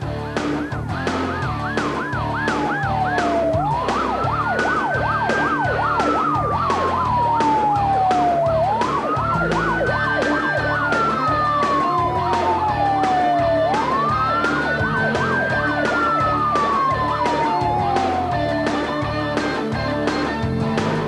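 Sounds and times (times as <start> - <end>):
music with steady drumbeat: 0.0 - 21.0
police siren wailing: 0.4 - 21.0
police siren yelping: 0.4 - 21.0.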